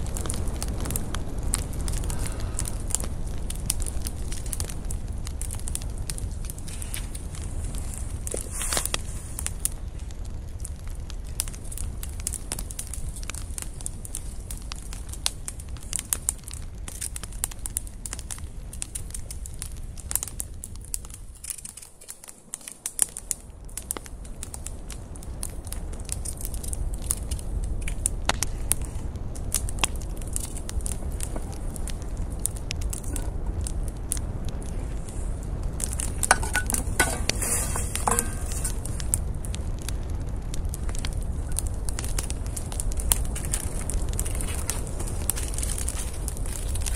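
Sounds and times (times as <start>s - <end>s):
campfire crackling: 0.0s - 46.9s
low rumble of flames: 0.0s - 46.9s.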